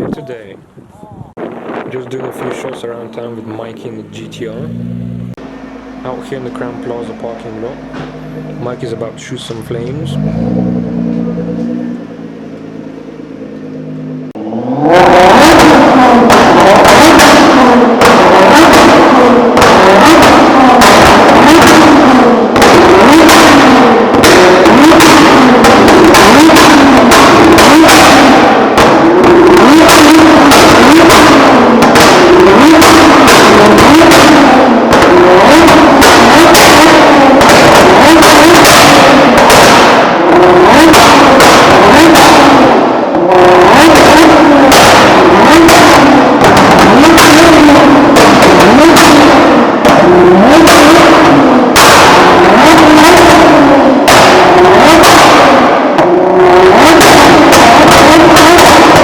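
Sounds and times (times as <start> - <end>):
car engine revving: 0.0 - 59.0
exhaust pops and bangs: 1.4 - 4.5, 5.4 - 9.9, 10.5 - 59.0.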